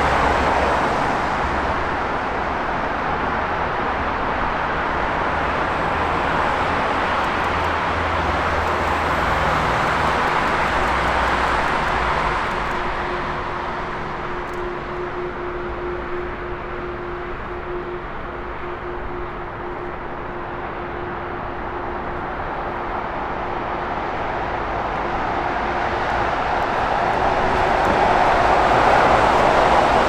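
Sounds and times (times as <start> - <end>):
jet airliner engine rush: 0.0 - 30.0.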